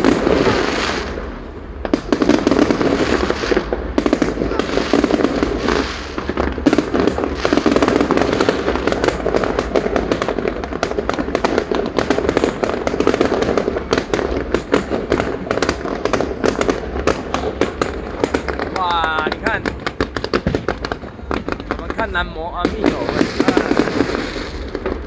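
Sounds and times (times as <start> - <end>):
fireworks crackling and popping: 0.0 - 25.0.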